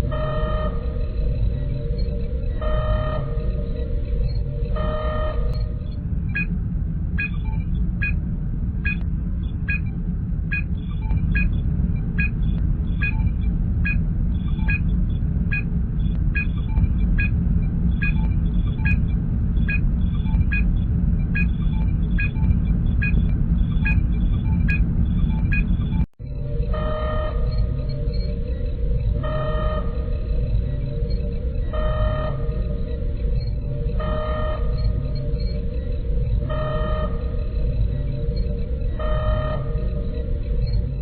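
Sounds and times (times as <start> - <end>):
low engine rumble: 0.0 - 41.0.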